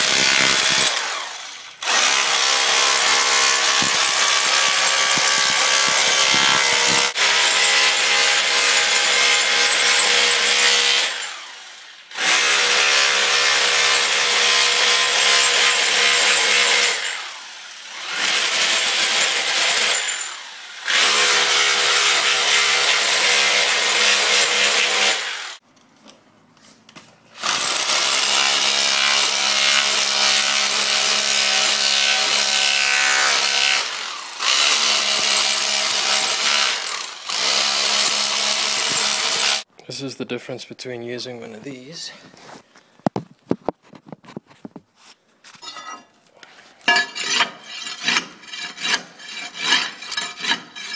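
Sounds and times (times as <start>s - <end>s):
hammer drill chipping tiles: 0.0s - 25.6s, 27.4s - 39.7s, 46.9s - 50.9s.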